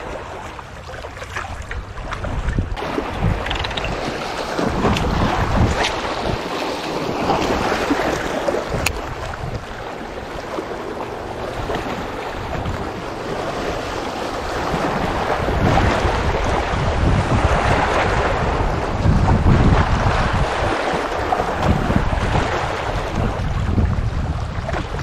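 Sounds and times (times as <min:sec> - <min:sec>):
waves splashing against rocks: 0:00.0 - 0:25.0
wind buffeting microphone: 0:00.0 - 0:25.0.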